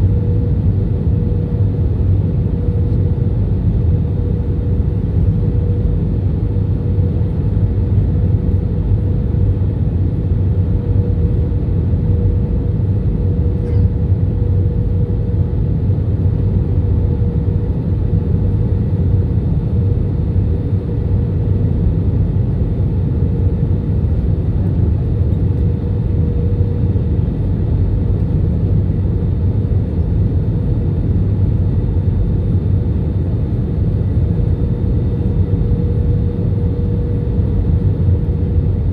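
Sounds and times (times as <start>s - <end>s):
airliner engine and airflow rumble: 0.0s - 38.9s.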